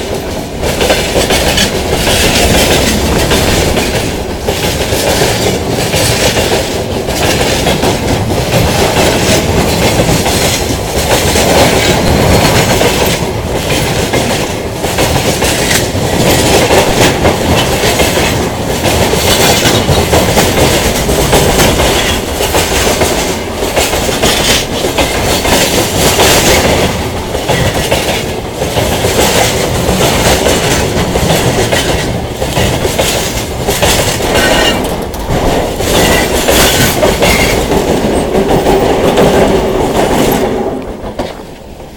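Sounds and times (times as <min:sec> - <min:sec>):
freight train rumbling past: 0:00.0 - 0:41.9
wheels clattering over rail joints: 0:00.0 - 0:41.9.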